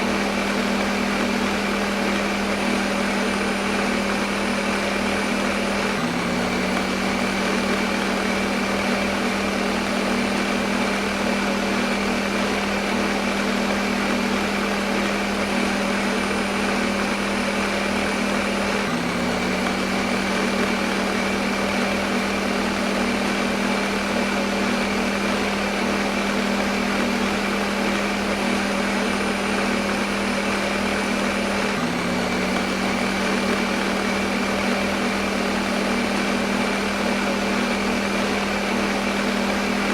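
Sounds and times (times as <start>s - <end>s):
blender motor whirring: 0.0s - 39.9s.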